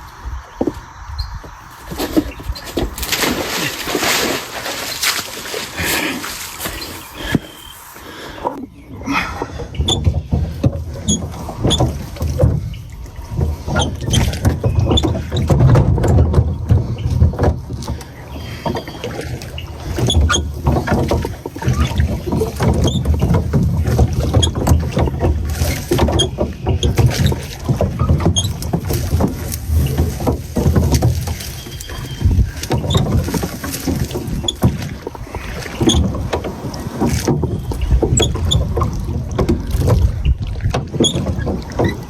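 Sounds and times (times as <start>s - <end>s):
water lapping around boat: 0.0s - 42.0s.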